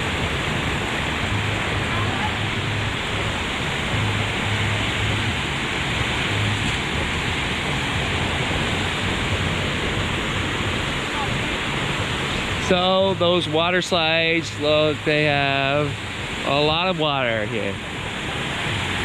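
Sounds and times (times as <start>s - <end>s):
water rushing down slides: 0.0s - 19.0s.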